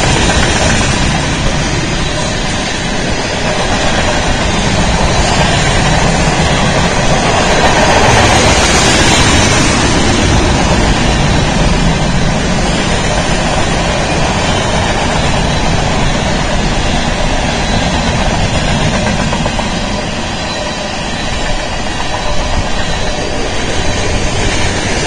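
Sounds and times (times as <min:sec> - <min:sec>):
freight train rumbling past: 0:00.0 - 0:25.0
sharp train knocks: 0:00.0 - 0:25.0.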